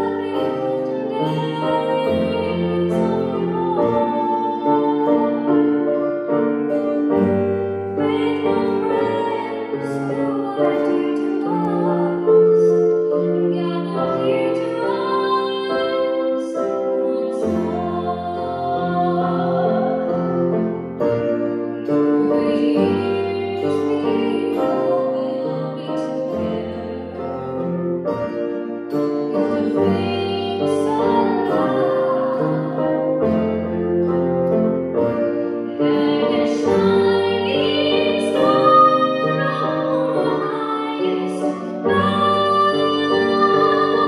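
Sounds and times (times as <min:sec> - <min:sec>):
keyboard low notes: 0:00.0 - 0:44.0
woman singing into a microphone: 0:00.0 - 0:44.0.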